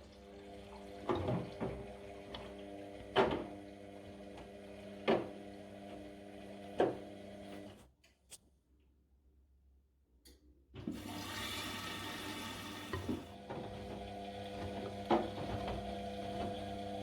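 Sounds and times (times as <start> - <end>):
washing machine motor hum: 0.0 - 7.7, 10.9 - 17.0.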